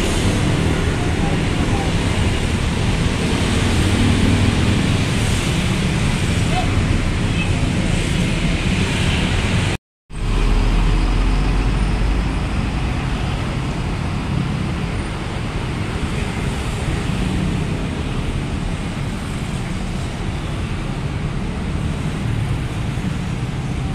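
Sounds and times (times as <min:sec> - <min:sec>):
bus engines rumbling: 0:00.0 - 0:23.9
steady traffic noise: 0:00.0 - 0:23.9.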